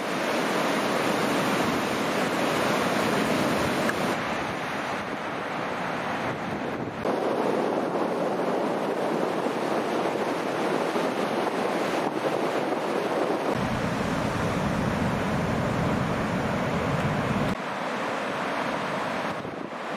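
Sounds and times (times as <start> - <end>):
wind on microphone: 0.0 - 17.6, 18.7 - 19.9
ocean surf breaking: 0.0 - 19.9.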